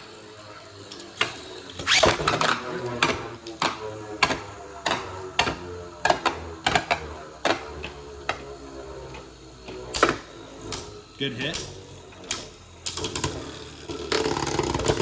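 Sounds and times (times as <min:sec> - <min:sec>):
spinning tops whirring: 0:00.0 - 0:15.0.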